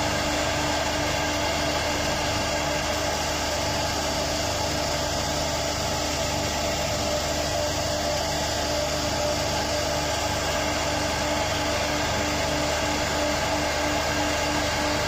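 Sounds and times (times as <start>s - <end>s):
router spindle hum and whine: 0.0s - 15.0s.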